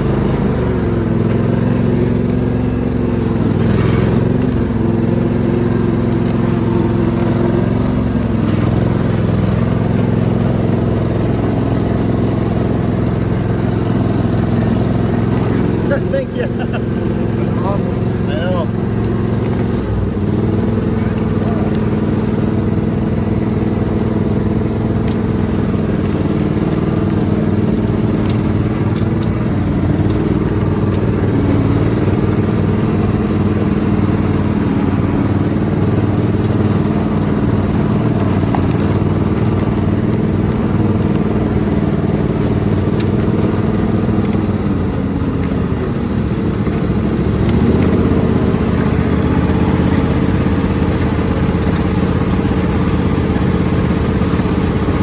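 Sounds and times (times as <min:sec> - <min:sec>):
riding lawn mower engine running: 0:00.0 - 0:55.0.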